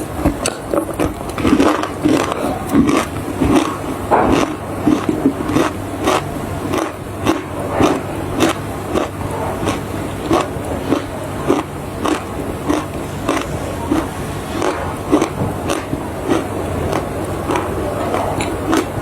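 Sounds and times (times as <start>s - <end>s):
person chewing crunchy clay: 0.0s - 19.0s.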